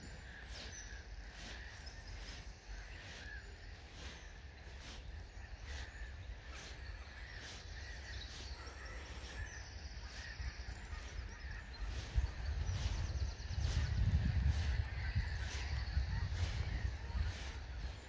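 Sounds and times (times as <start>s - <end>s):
birds calling faintly: 0.0s - 18.0s
wind rumbling on microphone: 0.0s - 18.0s.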